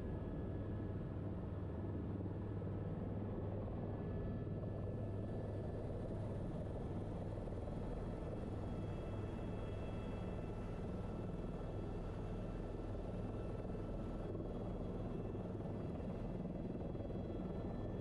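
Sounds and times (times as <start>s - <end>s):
helicopter engine and rotors: 0.0s - 18.0s.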